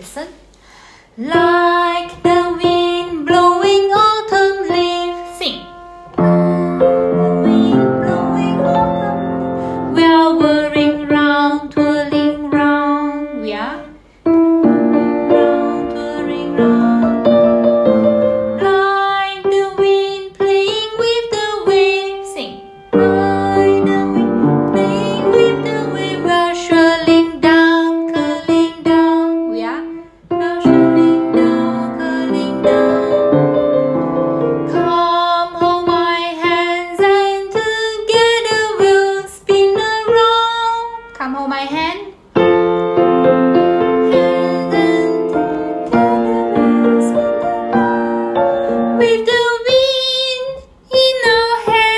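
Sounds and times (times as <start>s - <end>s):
woman singing: 1.2s - 13.9s, 14.6s - 17.7s, 18.5s - 33.8s, 34.7s - 42.0s, 43.9s - 51.9s
grand piano: 1.2s - 51.9s.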